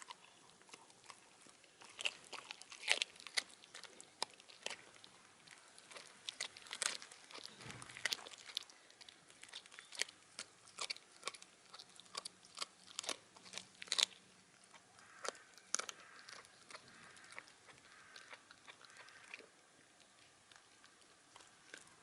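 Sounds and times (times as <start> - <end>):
dog crunching bones: 0.0 - 22.0.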